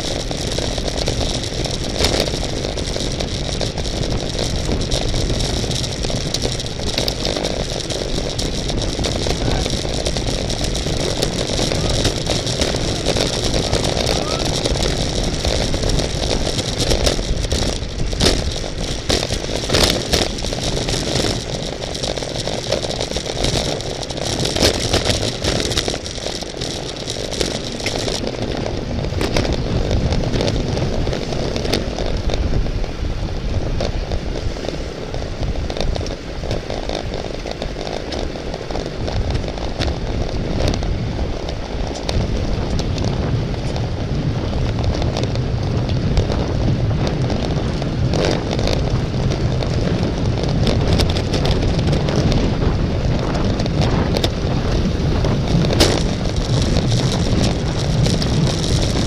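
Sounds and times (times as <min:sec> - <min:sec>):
bicycle clicks and rattles: 0:00.0 - 0:59.0
wind rushing over microphone: 0:00.0 - 0:59.0.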